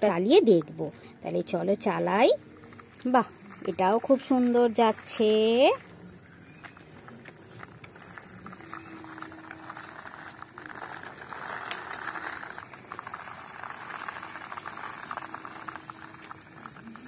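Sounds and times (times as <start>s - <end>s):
toy truck wheels rattling: 0.0s - 17.0s.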